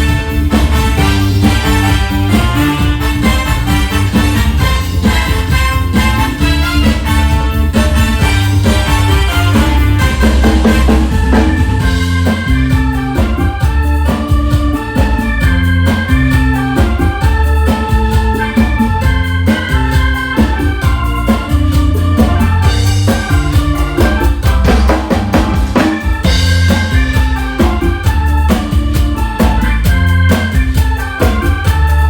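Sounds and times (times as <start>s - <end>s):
fast drum beat: 0.0s - 32.0s
heavy bass: 0.0s - 32.0s
keyboard playing as organ: 0.0s - 32.0s.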